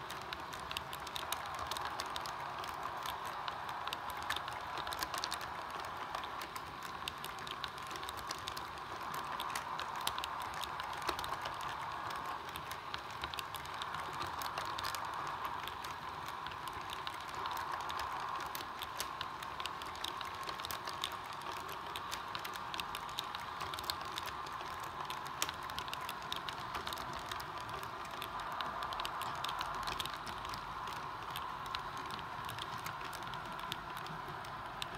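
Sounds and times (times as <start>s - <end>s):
model train wheels clicking: 0.0s - 34.9s.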